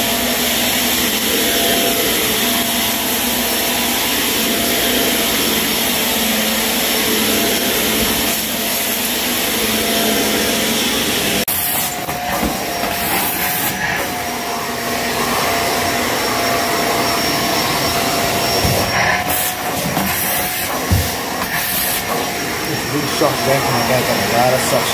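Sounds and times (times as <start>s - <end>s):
vacuum cleaner motor whine: 0.0s - 24.9s.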